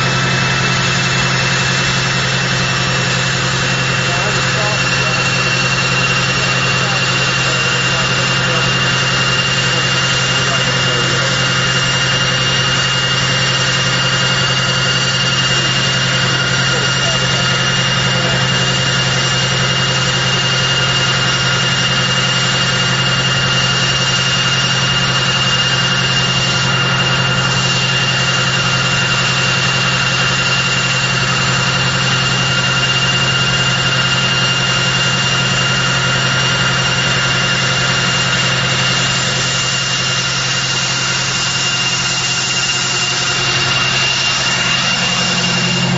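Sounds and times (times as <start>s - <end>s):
turboprop engines running: 0.0s - 45.9s.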